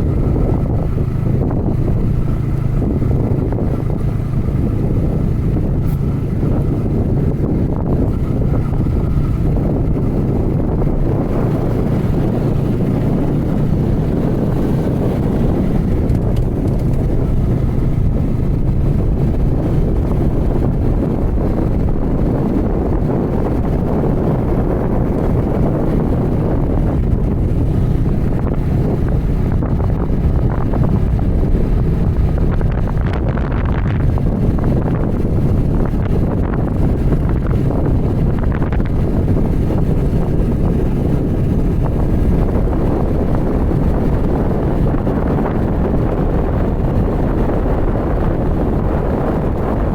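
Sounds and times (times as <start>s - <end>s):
motorcycle engine running: 0.0s - 49.9s
wind buffeting microphone: 0.0s - 49.9s.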